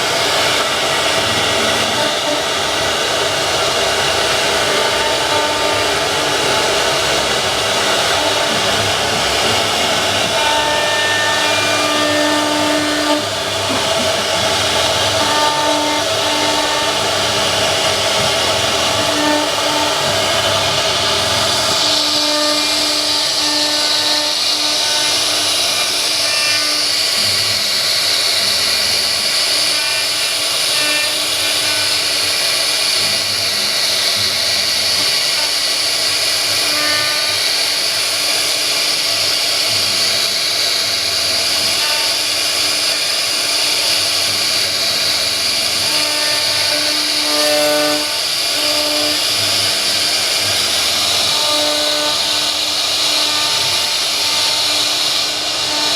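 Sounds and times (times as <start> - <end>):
cnc router hissing: 0.0 - 55.9.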